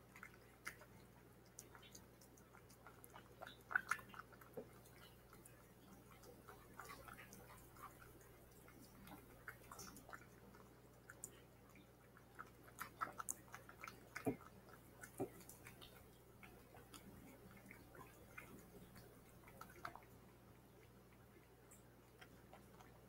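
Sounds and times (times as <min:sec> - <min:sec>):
cat chewing wet food: 0:00.0 - 0:23.0.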